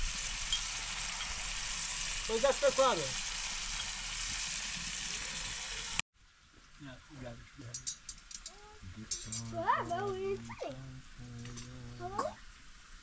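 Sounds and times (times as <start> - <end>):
greens sizzling in a pan: 0.0 - 10.8.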